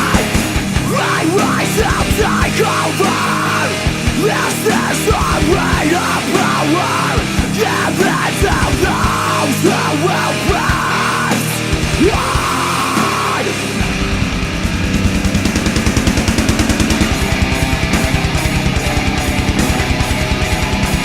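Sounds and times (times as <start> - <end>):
heavy metal song: 0.0 - 21.0.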